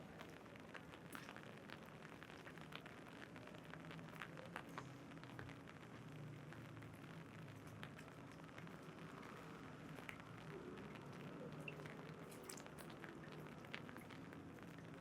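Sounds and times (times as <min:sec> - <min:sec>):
rain on an umbrella: 0:00.0 - 0:15.0.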